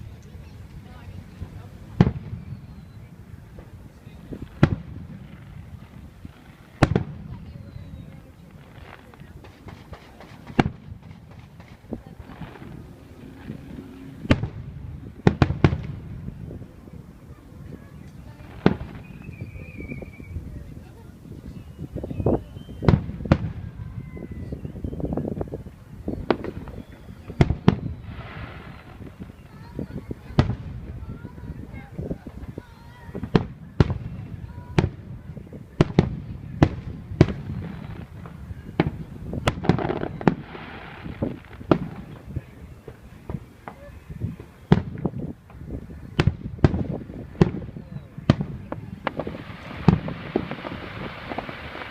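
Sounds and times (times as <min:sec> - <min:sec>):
fireworks bursting with rumble: 0:00.0 - 0:51.9.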